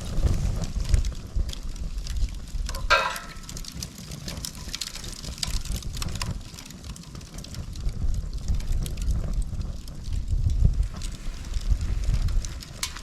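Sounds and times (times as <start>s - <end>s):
bamboo crackling and popping in fire: 0.0s - 13.0s
wind rumble on microphone: 0.0s - 13.0s.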